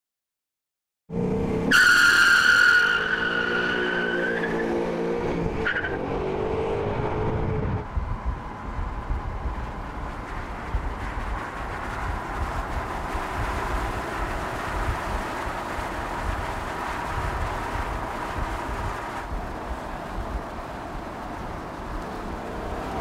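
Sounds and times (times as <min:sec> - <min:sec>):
road and wind noise: 0:01.1 - 0:23.0.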